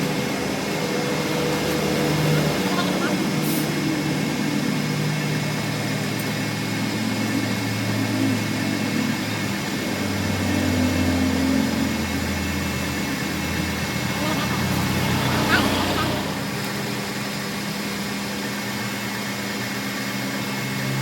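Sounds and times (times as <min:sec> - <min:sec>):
machine motor humming: 0:00.0 - 0:17.4.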